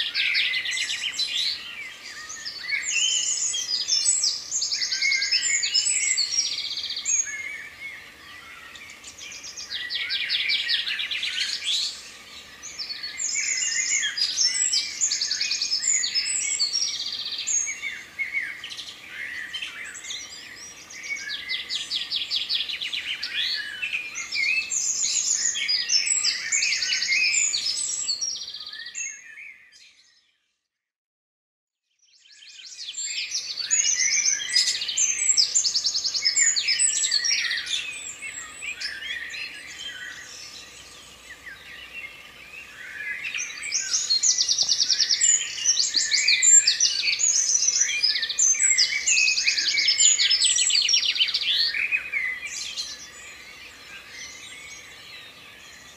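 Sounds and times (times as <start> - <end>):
songbirds singing: 0.0 - 30.5, 31.9 - 55.9.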